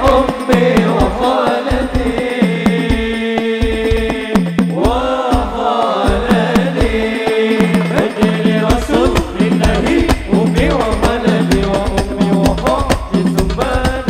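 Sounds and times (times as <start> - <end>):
hand drums: 0.0 - 14.0
low repeating accompaniment: 0.0 - 14.0
man singing amplified: 0.0 - 14.0.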